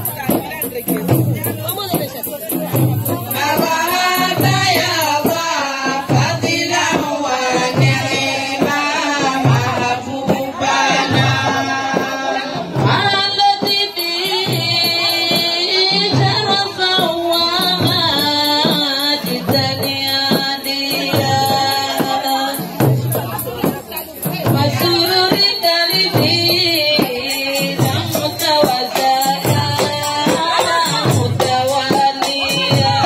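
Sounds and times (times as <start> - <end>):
frame drums beating rhythm: 0.0 - 33.0
women singing: 2.8 - 33.0.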